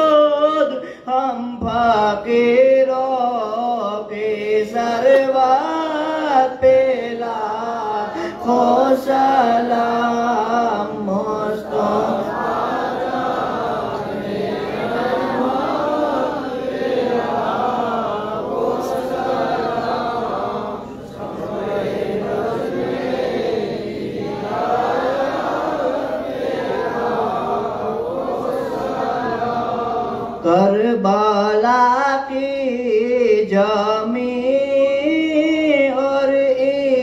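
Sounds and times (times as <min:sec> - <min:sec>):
men chanting: 0:00.0 - 0:32.8.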